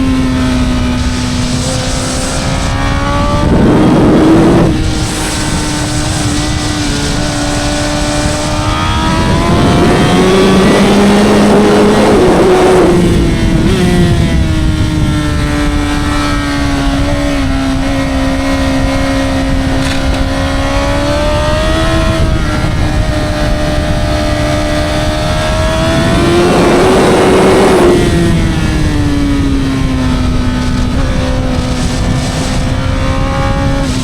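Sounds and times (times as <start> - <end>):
motorcycle engine at speed: 0.0 - 34.0
wind rushing: 0.0 - 34.0.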